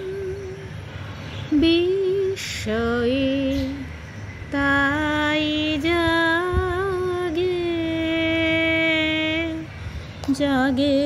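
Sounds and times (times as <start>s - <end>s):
woman singing slow song: 0.0s - 11.0s.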